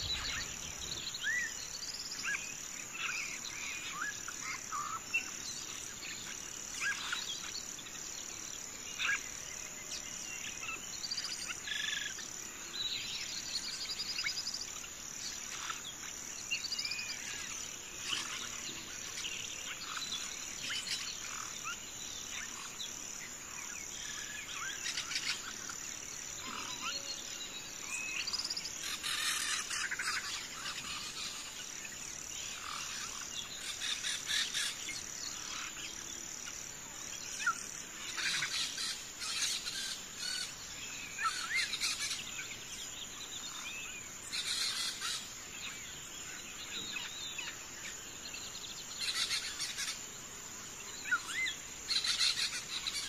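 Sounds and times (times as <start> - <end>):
insect drone: 0.0 - 53.0
small birds chirping: 0.0 - 53.0.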